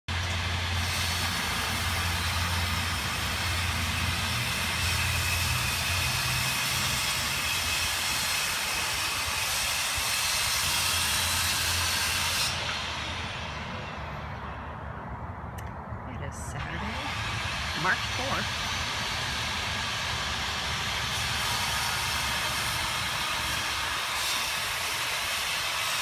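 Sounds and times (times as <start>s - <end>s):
bandsaw motor hum: 0.1s - 13.6s, 16.8s - 26.0s.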